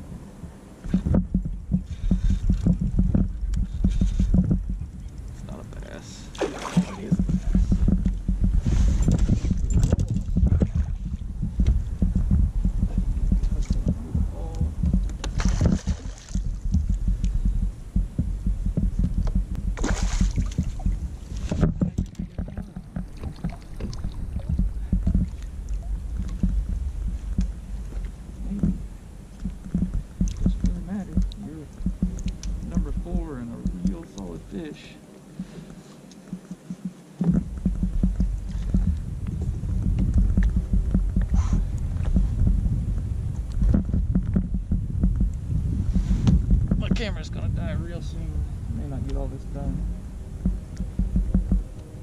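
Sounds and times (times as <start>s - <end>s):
low uneven rumble: 0.0s - 52.0s
water swishes and splashes: 0.0s - 52.0s.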